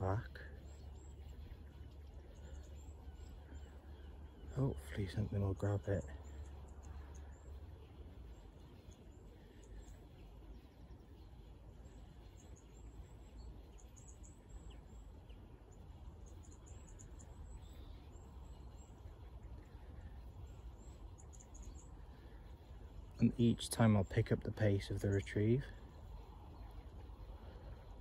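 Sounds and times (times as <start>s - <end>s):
low steady rumble: 0.0s - 28.0s
small birds chirping: 0.0s - 28.0s.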